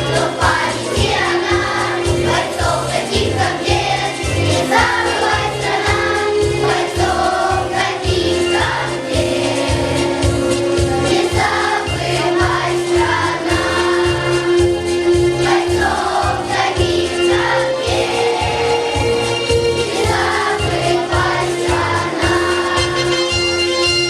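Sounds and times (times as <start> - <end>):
children singing: 0.0 - 23.6.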